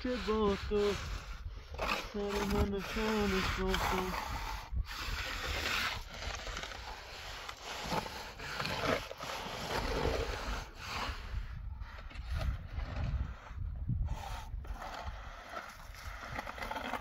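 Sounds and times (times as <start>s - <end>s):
shovel scraping concrete mix: 0.0s - 17.0s
trowel scraping wet concrete: 0.0s - 17.0s.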